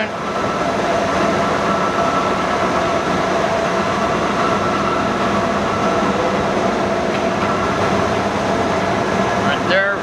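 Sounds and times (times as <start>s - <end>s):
lathe running with whine: 0.0s - 10.0s.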